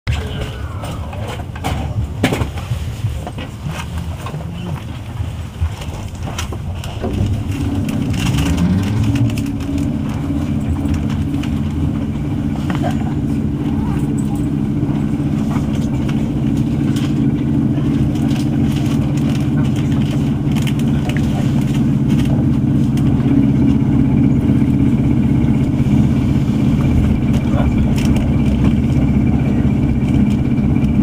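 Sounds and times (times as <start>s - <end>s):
train running rumble: 0.1s - 31.0s
wheels clunking on rails: 0.1s - 31.0s
traction motor whine: 5.1s - 31.0s.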